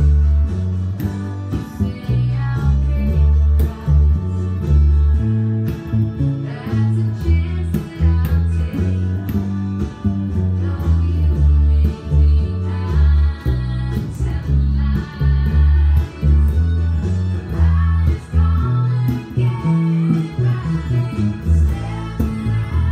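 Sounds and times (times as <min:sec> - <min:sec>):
country song with singing and guitar: 0:00.0 - 0:22.9
fingerpicked electric bass: 0:00.0 - 0:22.9.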